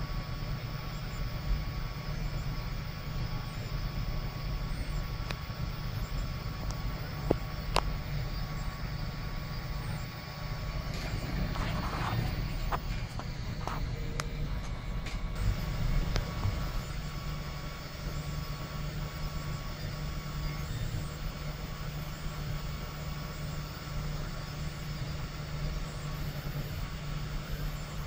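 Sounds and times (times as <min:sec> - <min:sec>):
printer fan and motors humming: 0:00.0 - 0:28.0.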